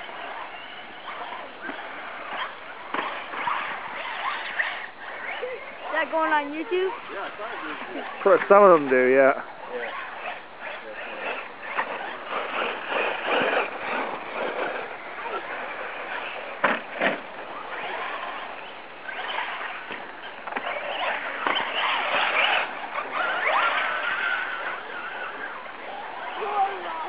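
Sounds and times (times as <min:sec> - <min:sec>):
tyre noise on dirt: 0:00.0 - 0:07.5, 0:09.8 - 0:27.0
electric motor whine: 0:00.0 - 0:27.0.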